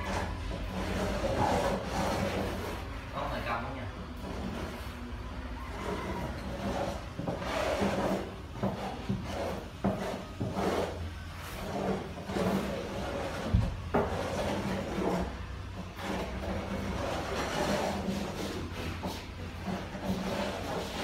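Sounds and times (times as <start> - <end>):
rasping scrapes on hard surface: 0.0 - 21.0.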